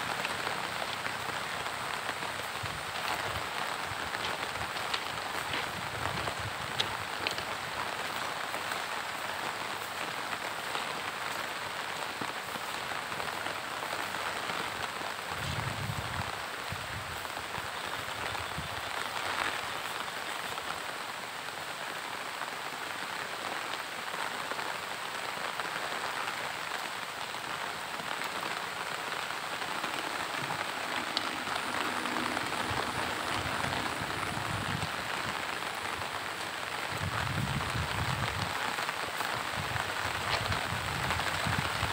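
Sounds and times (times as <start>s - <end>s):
raindrops ticking: 0.0s - 16.6s, 22.9s - 41.9s
steady rain hiss: 0.0s - 41.9s.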